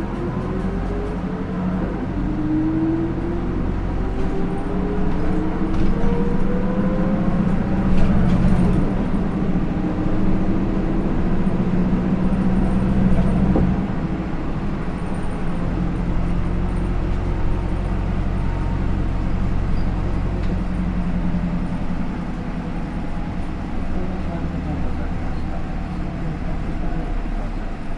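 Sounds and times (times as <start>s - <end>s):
bus engine hum: 0.0s - 27.9s.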